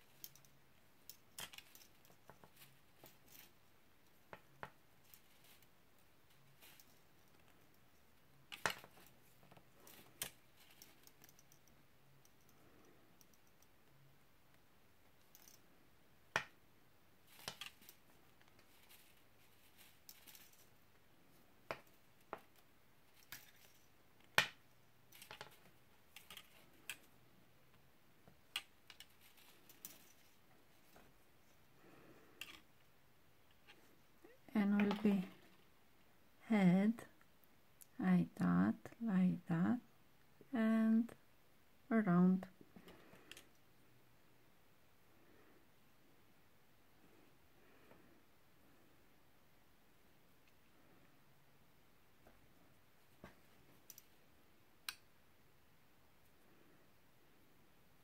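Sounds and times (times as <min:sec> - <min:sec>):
faint room hiss: 0:00.0 - 0:58.0.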